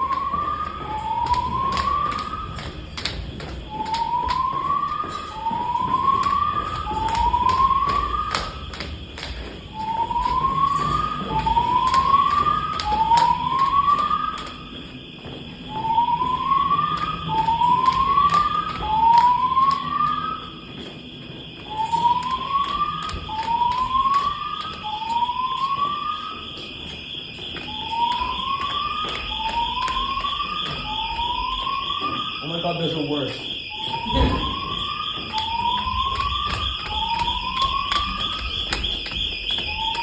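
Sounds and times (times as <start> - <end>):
fire alarm whoop tones: 0.0 - 40.0
steady high alarm tone: 0.0 - 40.0.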